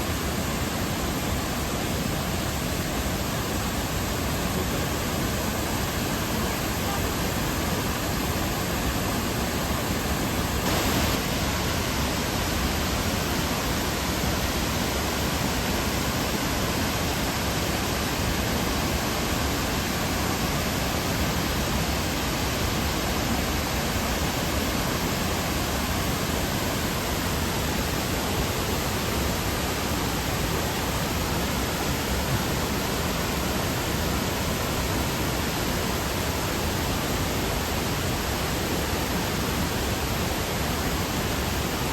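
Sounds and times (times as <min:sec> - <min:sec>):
rushing water roar: 0:00.0 - 0:41.9.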